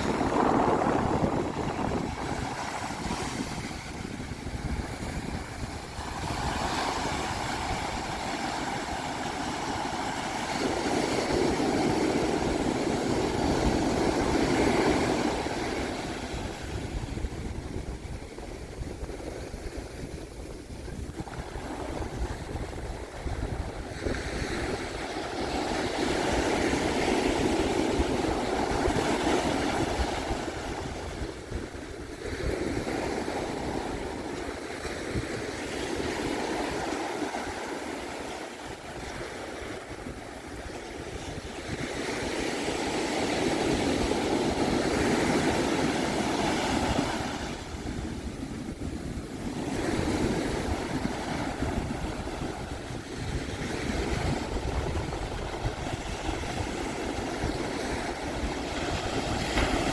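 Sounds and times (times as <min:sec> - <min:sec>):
low rumble of wind: 0:00.0 - 0:59.9
waves breaking on sandy beach: 0:00.0 - 0:59.9.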